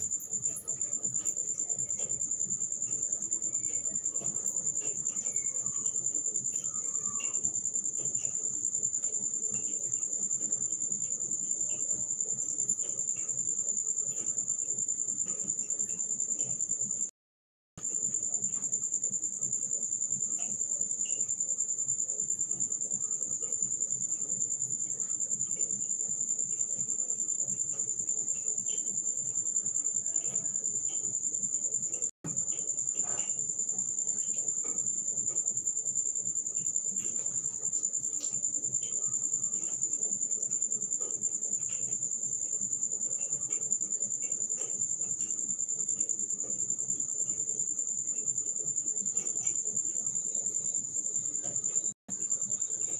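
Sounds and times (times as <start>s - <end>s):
insect chorus trilling: 0.0s - 17.0s, 17.8s - 52.9s.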